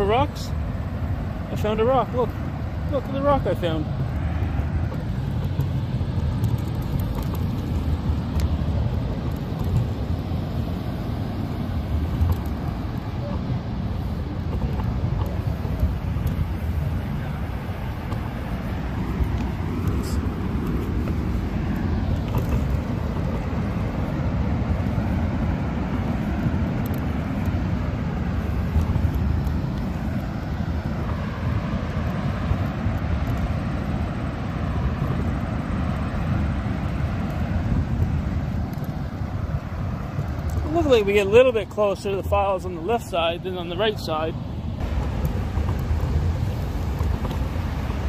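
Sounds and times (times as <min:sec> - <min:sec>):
wheelchair wheels rolling on boardwalk: 0:00.0 - 0:48.0.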